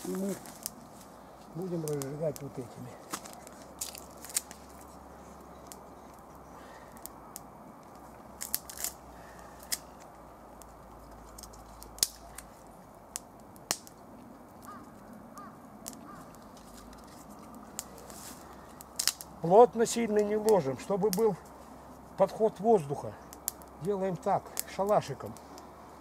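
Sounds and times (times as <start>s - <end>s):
kindling sticks snapping: 0.0s - 21.6s, 23.3s - 25.7s.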